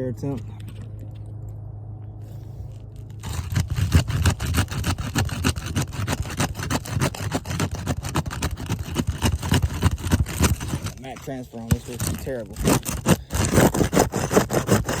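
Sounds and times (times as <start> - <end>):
roof shingle scraping and tearing: 2.3 - 15.0.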